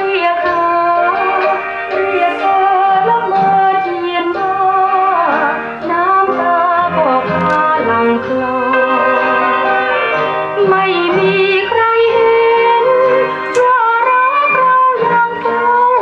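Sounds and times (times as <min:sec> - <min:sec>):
recorded music with singing: 0:00.0 - 0:16.0.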